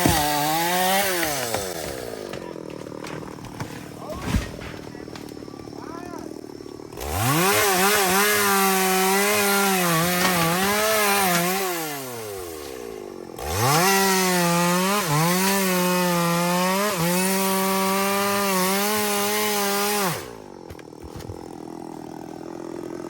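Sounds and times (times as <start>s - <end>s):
chainsaw cutting wood: 0.0s - 23.0s
chainsaw idling: 0.0s - 23.0s.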